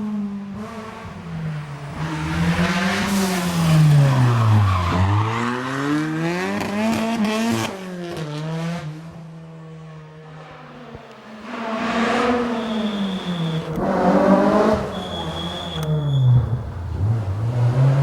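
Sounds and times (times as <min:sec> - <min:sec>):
rally car engine revving: 0:00.0 - 0:09.3, 0:10.3 - 0:18.0.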